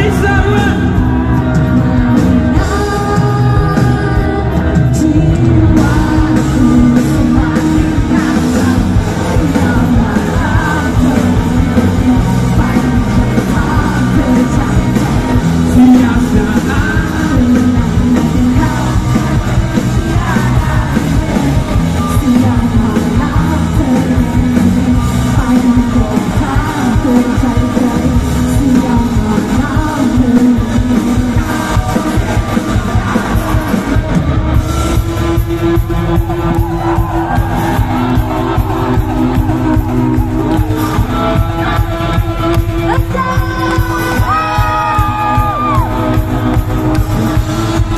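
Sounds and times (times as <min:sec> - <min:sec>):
electric guitars: 0:00.0 - 0:47.9
heavy bass: 0:00.0 - 0:47.9
lead singer singing: 0:00.0 - 0:47.9.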